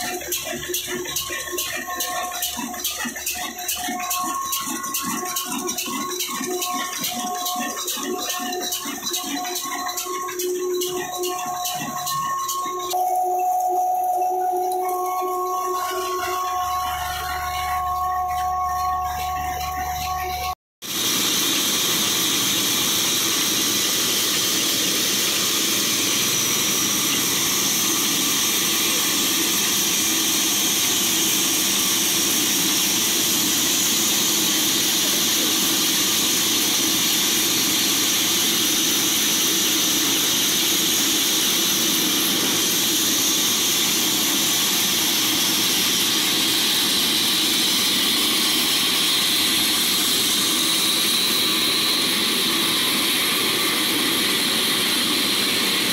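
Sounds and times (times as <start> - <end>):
band saw blade whine: 0.0 - 55.9.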